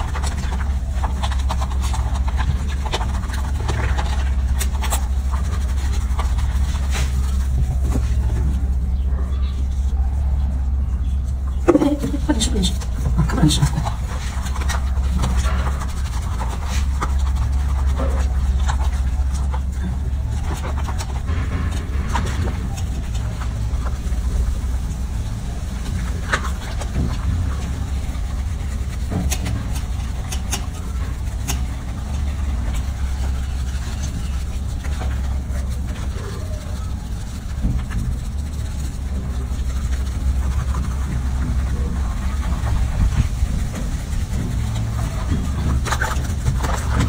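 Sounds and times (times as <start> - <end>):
low rumble: 0.0 - 47.0
soapy fur being scrubbed: 0.0 - 47.0.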